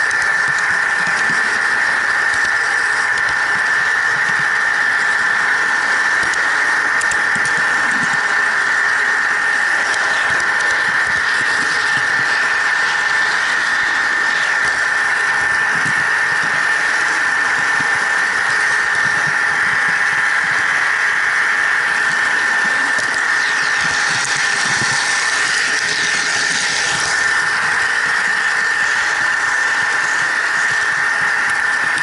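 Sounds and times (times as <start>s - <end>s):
model train high-pitched whine: 0.0s - 32.0s.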